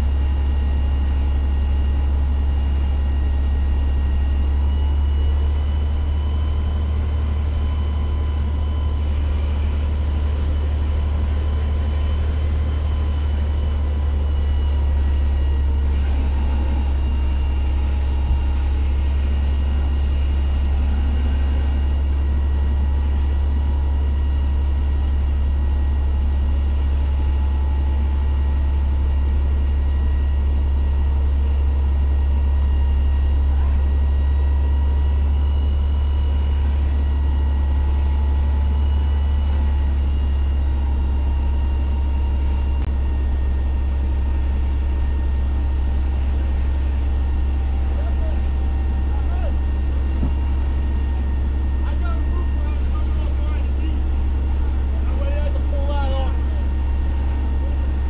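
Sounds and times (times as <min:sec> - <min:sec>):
diesel engine drone: 0:00.0 - 0:58.0.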